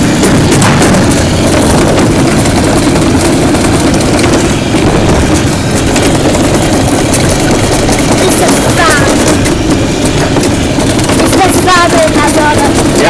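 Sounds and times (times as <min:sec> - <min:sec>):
sled rumbling on metal channel: 0:00.0 - 0:13.0.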